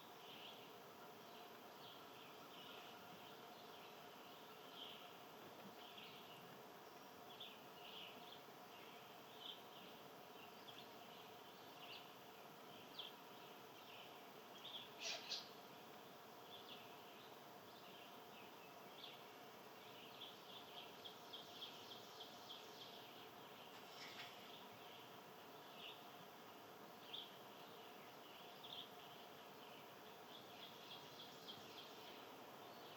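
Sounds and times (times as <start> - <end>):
faint steady hum: 0.0 - 32.9
small birds chirping: 0.0 - 32.9.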